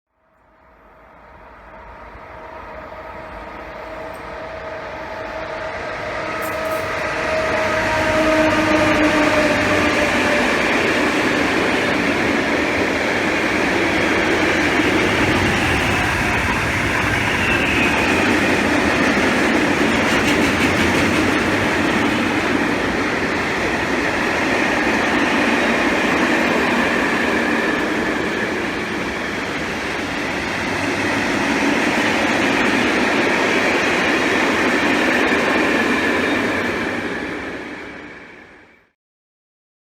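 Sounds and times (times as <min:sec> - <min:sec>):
freight train rolling past: 0:00.4 - 0:38.8.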